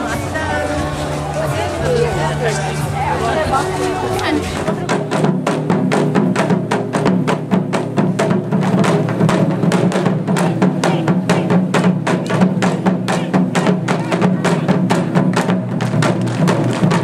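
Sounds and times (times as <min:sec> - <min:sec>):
drums beaten with sticks: 0:00.0 - 0:17.0.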